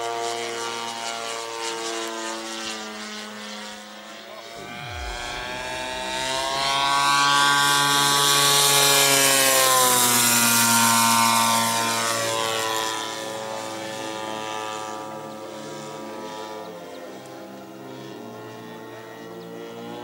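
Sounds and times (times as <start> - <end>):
model plane engine passing by: 0.0 - 20.0.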